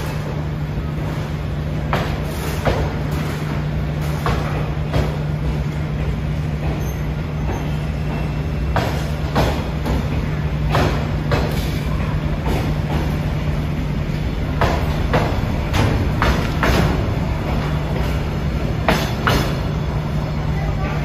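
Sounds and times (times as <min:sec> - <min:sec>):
train hum and rumble: 0:00.0 - 0:21.0.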